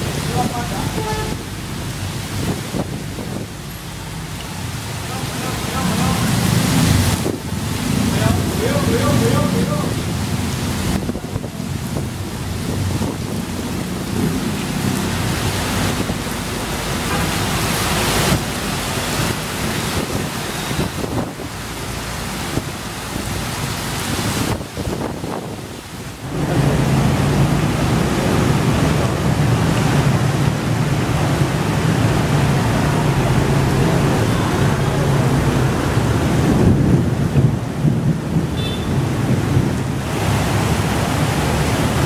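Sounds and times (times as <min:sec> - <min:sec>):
steady rain: 0:00.0 - 0:42.0
wind: 0:00.0 - 0:42.0.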